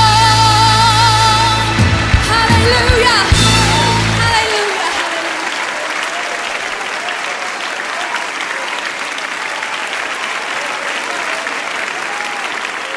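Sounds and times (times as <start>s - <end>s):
audience applauding: 1.0s - 12.9s.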